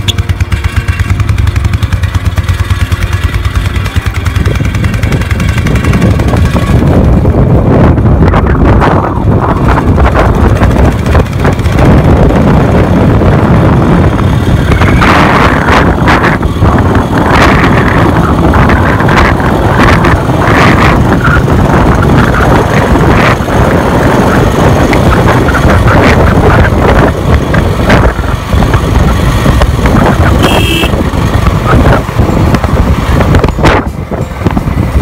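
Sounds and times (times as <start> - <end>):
motorcycle engine running: 0.0 - 35.0
wind rush on microphone: 3.4 - 35.0.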